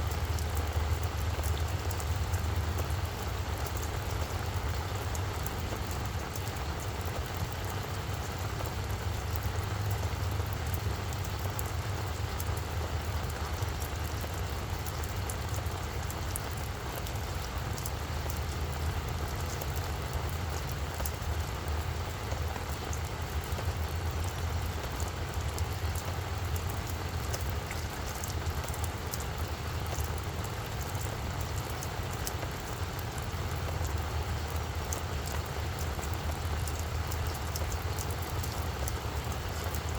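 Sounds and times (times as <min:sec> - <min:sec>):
rain falling on plants: 0:00.0 - 0:39.9.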